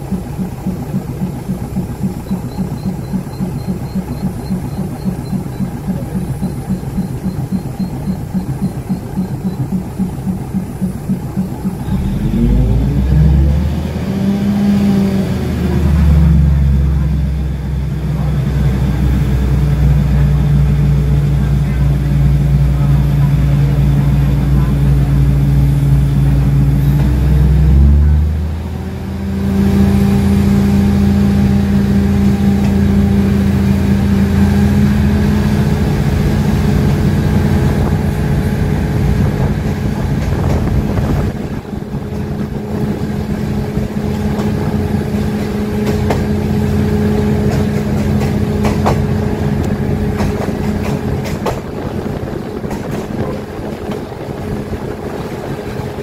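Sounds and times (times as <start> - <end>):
diesel train engine drone: 0.0 - 56.0.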